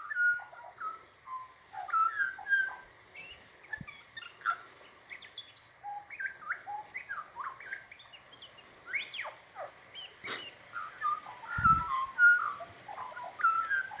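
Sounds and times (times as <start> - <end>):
magpie singing: 0.0 - 14.0.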